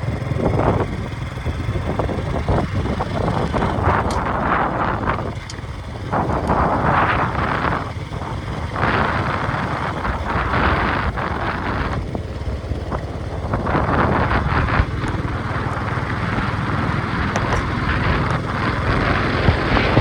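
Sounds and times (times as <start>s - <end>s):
vehicle engine rumble: 0.0s - 20.0s
wind noise on microphone: 0.0s - 20.0s.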